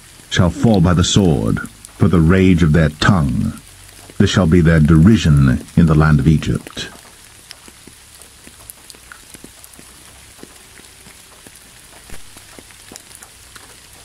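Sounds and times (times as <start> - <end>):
light rain: 0.0 - 14.0
raindrops pattering: 0.0 - 14.0.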